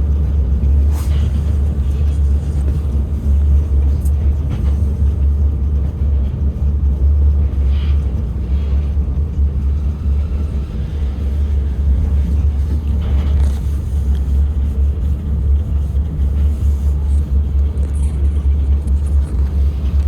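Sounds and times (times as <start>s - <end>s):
monorail car rumbling: 0.0s - 20.0s.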